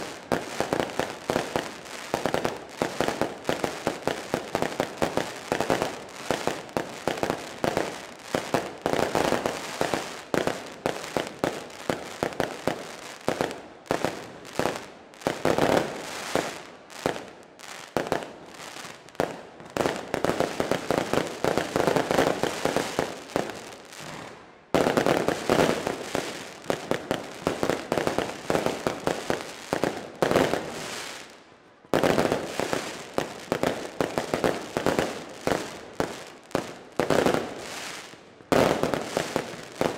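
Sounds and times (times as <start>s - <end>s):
fireworks bursting: 0.0s - 39.9s
fireworks crackling: 0.0s - 39.9s.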